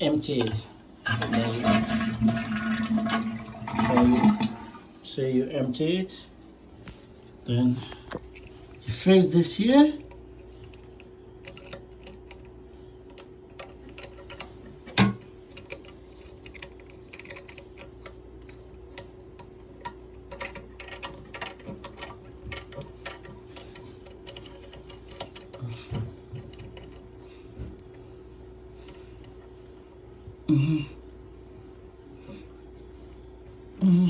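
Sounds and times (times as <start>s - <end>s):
faint hum: 0.0s - 34.0s.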